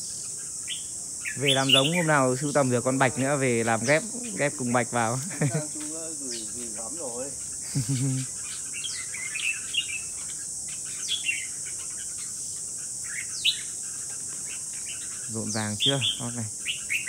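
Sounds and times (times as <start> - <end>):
birds chirping and whistling: 0.0 - 17.0
high insect buzz: 0.0 - 17.0.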